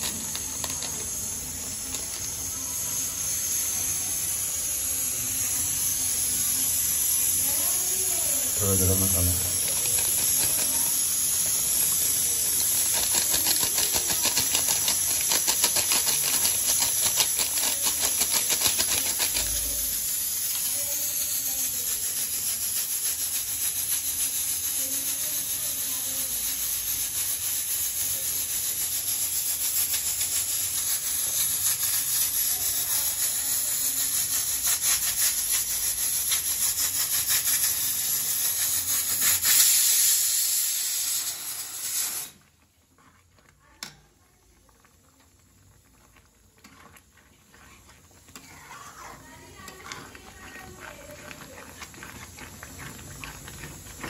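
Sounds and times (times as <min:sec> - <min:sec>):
puree simmering and sputtering: 0:00.0 - 0:54.0.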